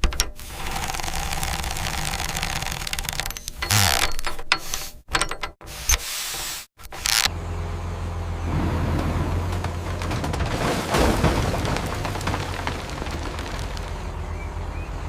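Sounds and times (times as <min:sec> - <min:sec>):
mechanical work noise: 0:00.0 - 0:14.5.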